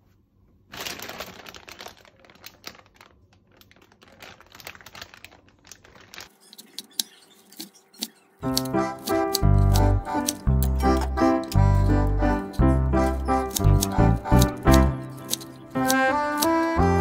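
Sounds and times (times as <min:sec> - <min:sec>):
plastic bag crinkling: 0:00.6 - 0:16.8.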